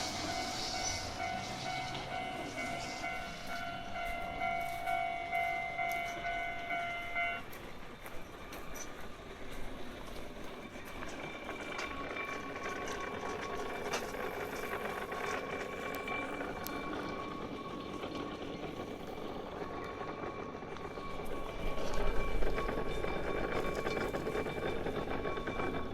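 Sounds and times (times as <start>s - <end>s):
funicular car rumbling on track: 0.0s - 25.9s.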